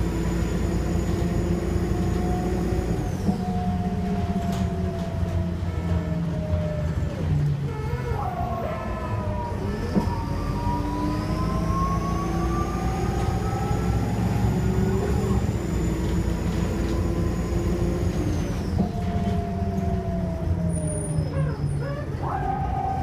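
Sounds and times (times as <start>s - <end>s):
diesel bus engine rumble: 0.0s - 23.0s.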